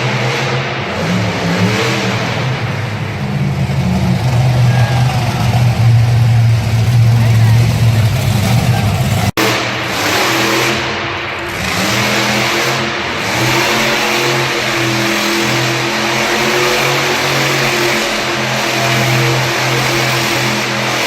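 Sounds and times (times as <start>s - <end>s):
vehicle engine running loud: 0.0s - 21.0s.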